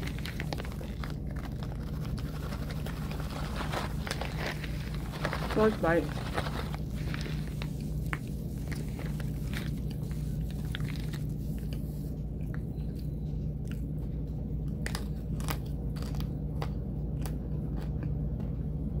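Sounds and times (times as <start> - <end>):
crunchy food chewing: 0.0 - 19.0
steady low hum: 0.0 - 19.0.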